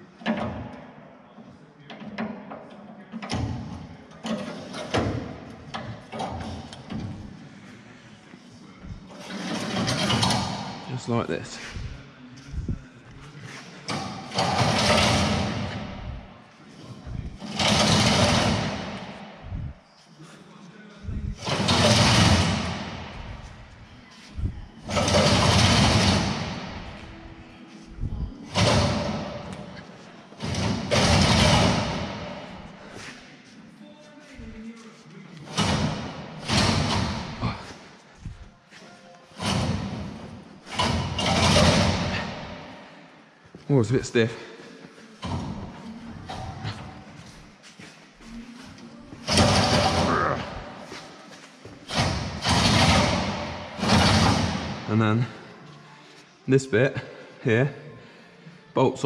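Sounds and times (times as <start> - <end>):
metal scraping and clanking: 1.9 - 19.8, 21.0 - 33.3, 35.4 - 43.1, 45.1 - 55.5.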